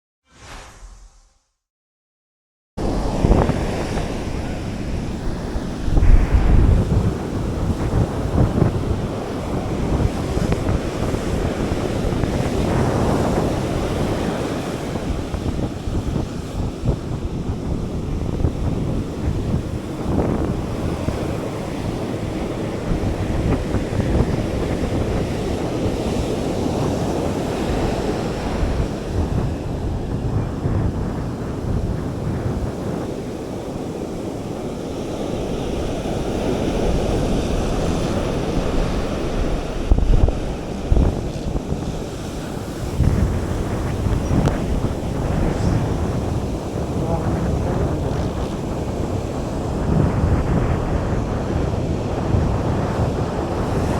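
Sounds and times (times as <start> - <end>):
surf breaking on beach: 2.8 - 53.9
wind buffeting microphone: 2.8 - 53.9.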